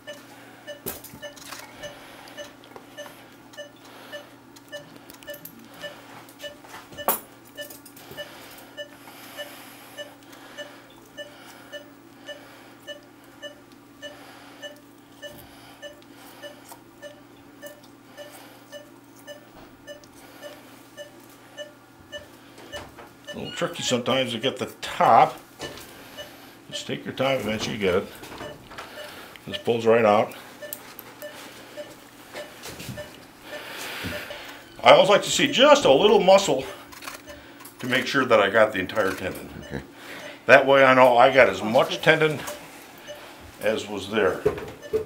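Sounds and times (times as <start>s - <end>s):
patient monitor beeping: 0.0s - 24.4s, 25.2s - 45.0s
low equipment hum: 0.0s - 45.0s.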